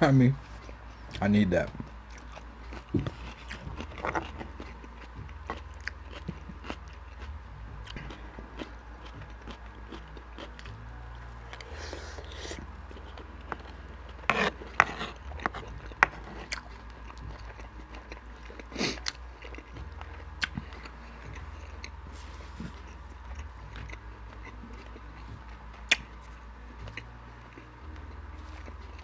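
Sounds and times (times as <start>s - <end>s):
steady low hum: 0.0s - 29.0s
person chewing and biting: 0.4s - 29.0s
crunchy bites: 0.7s - 29.0s.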